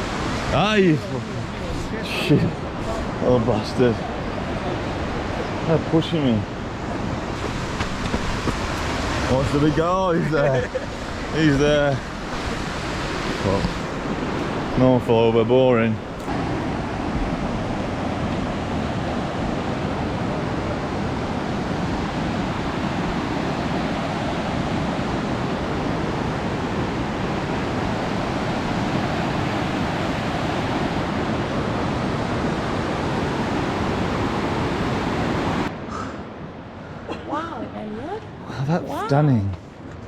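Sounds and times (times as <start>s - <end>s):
fast water rushing: 0.0s - 36.4s.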